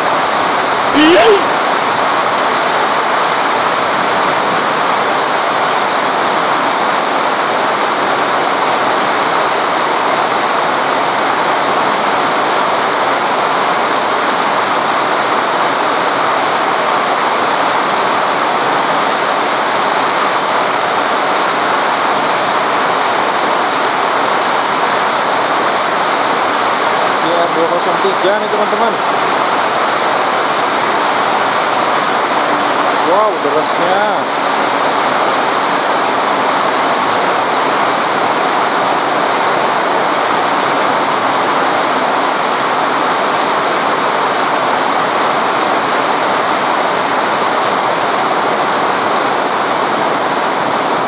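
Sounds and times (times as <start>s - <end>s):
heavy rain hissing: 0.0s - 51.0s.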